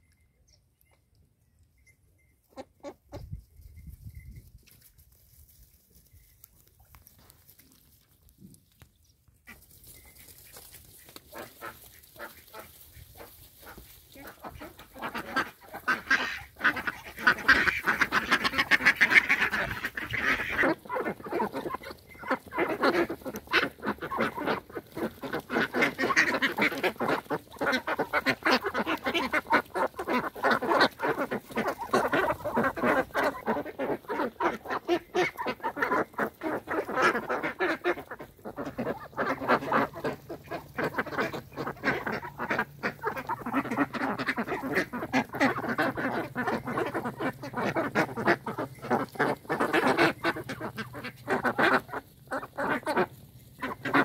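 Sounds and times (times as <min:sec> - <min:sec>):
ducks quacking: 0:02.4 - 0:03.4, 0:09.4 - 0:54.0.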